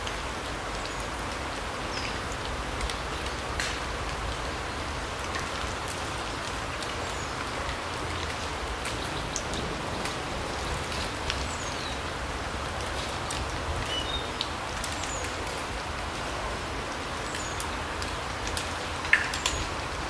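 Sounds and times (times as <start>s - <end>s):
rain hiss: 0.0s - 20.0s
raindrops ticking: 0.0s - 20.0s.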